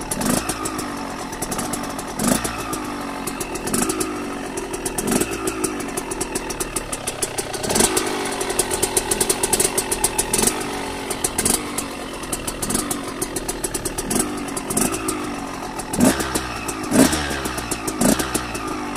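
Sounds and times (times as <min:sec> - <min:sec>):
two-stroke engine revving: 0:00.0 - 0:18.9.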